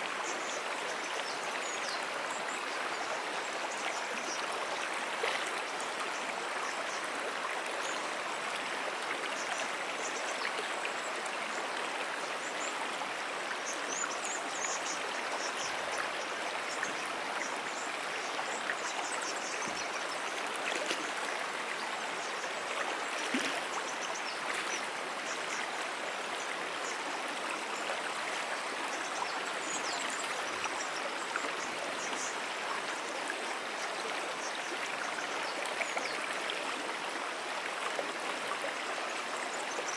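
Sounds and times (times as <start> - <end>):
brook water flowing: 0.0 - 39.9.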